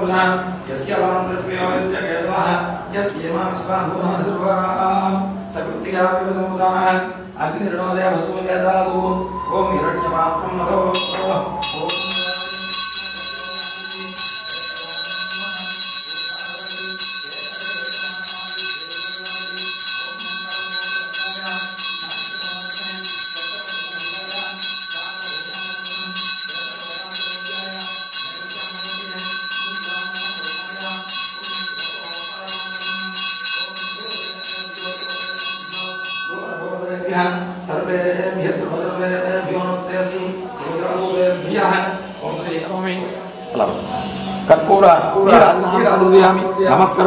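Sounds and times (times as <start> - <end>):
bell ringing continuously: 0.0 - 47.0.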